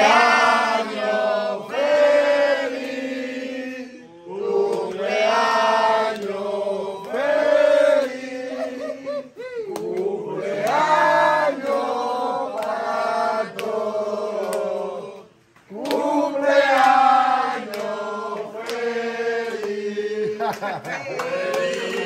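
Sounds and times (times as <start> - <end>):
group of people singing: 0.0 - 22.0.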